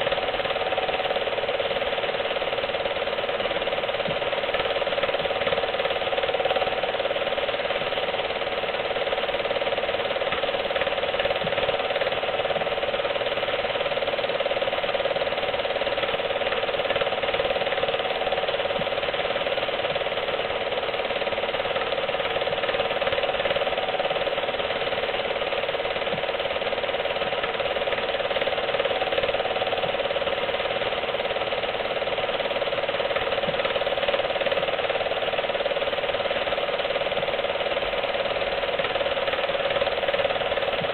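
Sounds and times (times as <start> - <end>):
film projector clatter and whir: 0.0 - 40.9.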